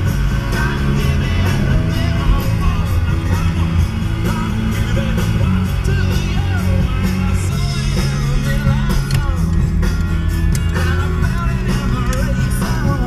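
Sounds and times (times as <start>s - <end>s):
person singing: 0.0s - 9.9s, 10.5s - 13.0s
rock guitar: 0.0s - 13.0s.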